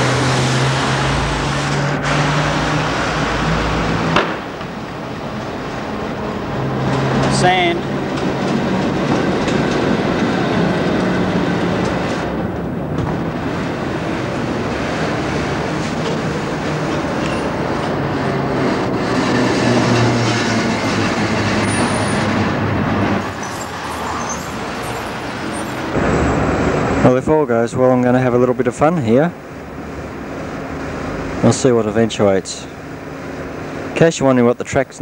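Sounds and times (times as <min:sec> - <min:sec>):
steel wheels rumbling on rails: 0:00.0 - 0:34.0.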